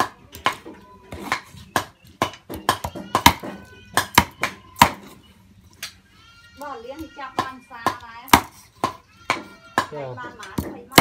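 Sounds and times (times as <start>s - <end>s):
cleaver chopping meat on wood: 0.0s - 5.1s, 7.0s - 11.0s.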